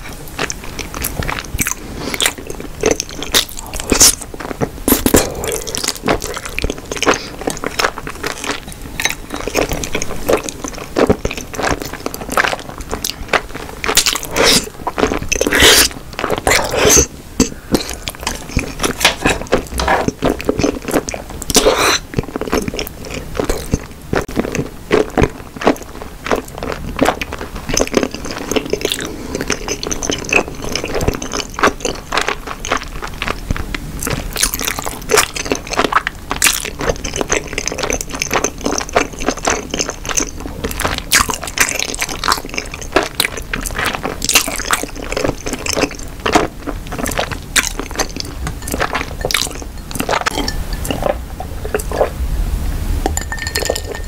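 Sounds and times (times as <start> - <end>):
person chewing snack food: 0.0 - 52.2, 53.0 - 54.0.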